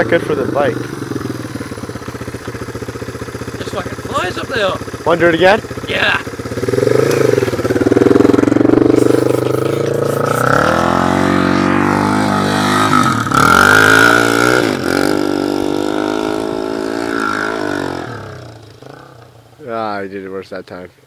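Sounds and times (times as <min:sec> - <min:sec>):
dirt bike engine revving: 0:00.0 - 0:19.6.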